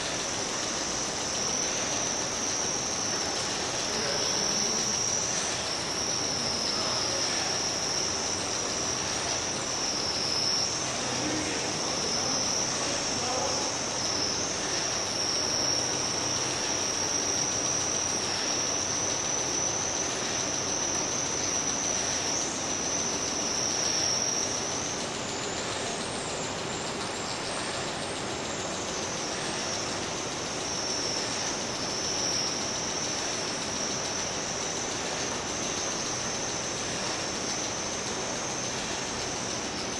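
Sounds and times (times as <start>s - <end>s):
wavering high-pitched whine: 0.0s - 39.9s.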